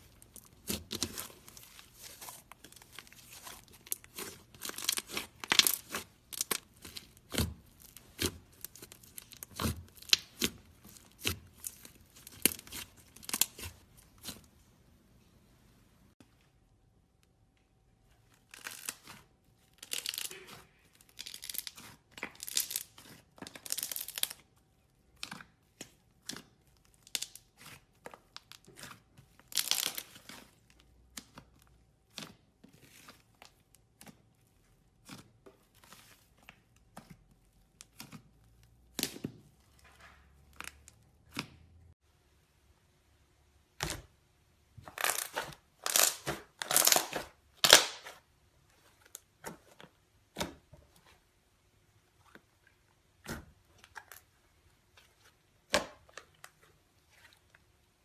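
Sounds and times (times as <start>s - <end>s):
slime squelching: 0.0s - 15.8s, 18.2s - 41.9s, 42.5s - 58.0s.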